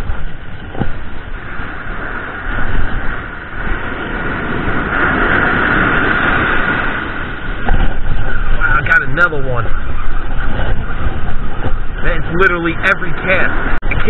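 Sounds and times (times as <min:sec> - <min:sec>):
surf: 0:00.0 - 0:14.0
wind buffeting microphone: 0:00.0 - 0:14.0.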